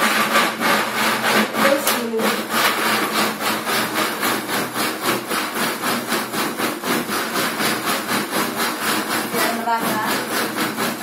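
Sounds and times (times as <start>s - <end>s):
blender motor pulsing: 0.0s - 11.0s.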